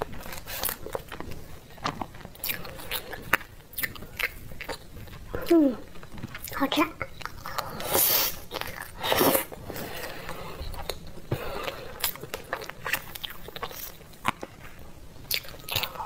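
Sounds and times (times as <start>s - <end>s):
chewing and mouth clicks: 0.0s - 16.0s.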